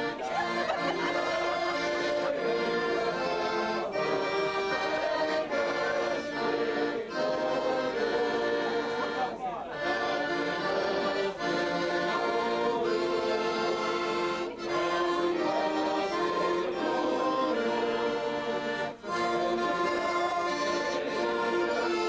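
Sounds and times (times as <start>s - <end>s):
piano accordion playing chords: 0.0s - 22.0s.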